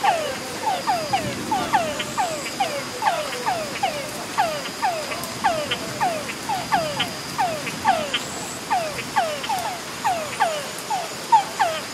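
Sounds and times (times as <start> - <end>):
frogs calling: 0.0 - 11.9.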